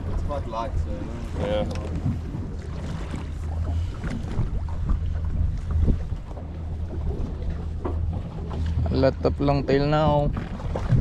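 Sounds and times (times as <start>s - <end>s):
boat engine droning: 0.0s - 11.0s
wind buffeting microphone: 0.0s - 11.0s.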